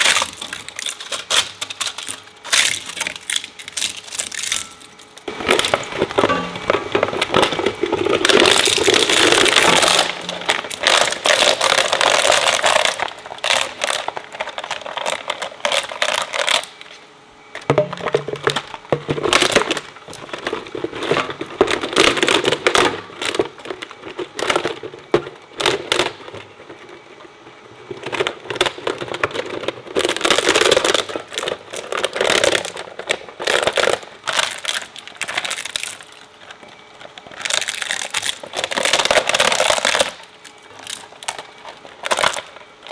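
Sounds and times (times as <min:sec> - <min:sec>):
shredder crunching plastic: 0:00.0 - 0:17.0, 0:17.6 - 0:42.9.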